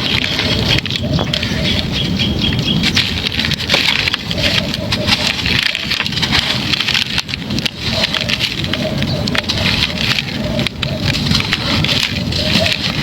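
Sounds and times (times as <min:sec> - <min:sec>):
dry chunks crunching by hand: 0:00.0 - 0:13.0.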